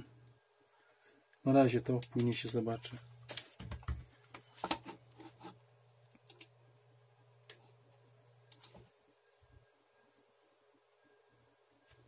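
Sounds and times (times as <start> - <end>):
desktop computer humming: 1.6 - 12.0.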